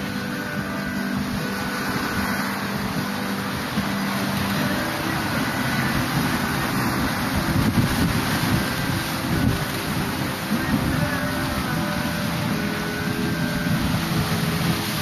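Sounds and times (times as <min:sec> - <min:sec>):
low held tone: 0:00.0 - 0:15.0
wind and sea rushing: 0:00.0 - 0:15.0.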